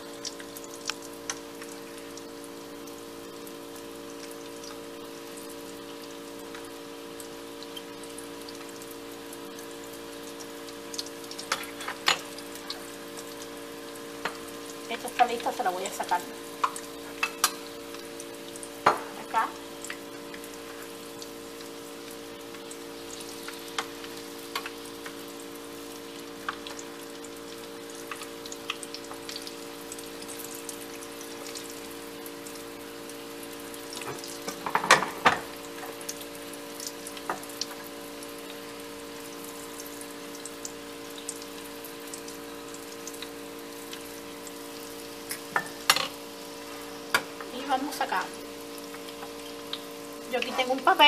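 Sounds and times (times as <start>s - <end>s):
food sizzling in hot oil: 0.0s - 51.0s.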